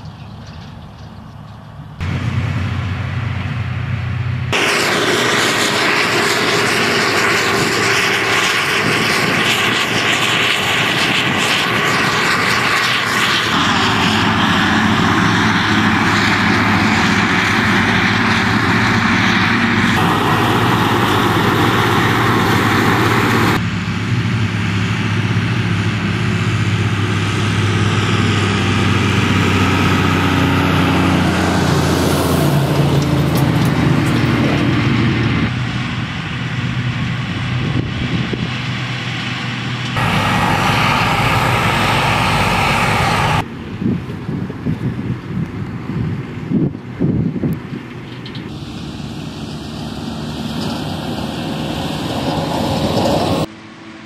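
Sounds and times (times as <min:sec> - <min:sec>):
forage harvester droning: 0:00.0 - 0:44.9, 0:47.5 - 0:54.0
tractor engines: 0:00.0 - 0:54.0.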